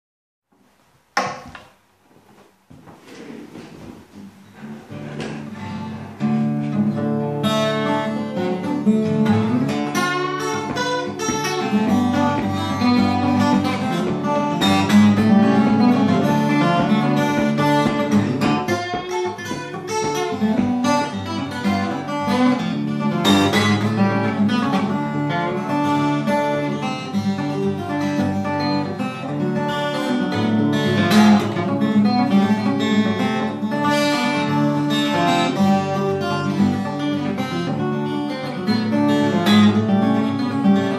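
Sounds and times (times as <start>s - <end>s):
acoustic guitar playing: 3.8s - 40.9s.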